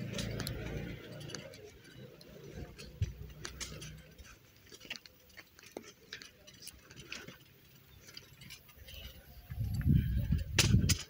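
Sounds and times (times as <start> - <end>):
faint irregular clicking: 0.0 - 9.9.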